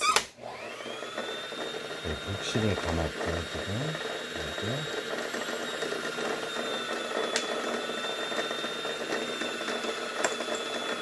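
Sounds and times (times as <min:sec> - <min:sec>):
sewing machine whining: 0:00.0 - 0:11.0.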